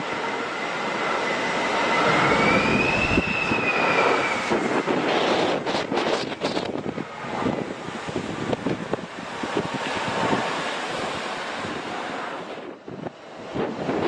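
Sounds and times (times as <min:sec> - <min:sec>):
jet engines whining: 0:00.0 - 0:14.0
wind buffeting microphone: 0:00.0 - 0:14.0.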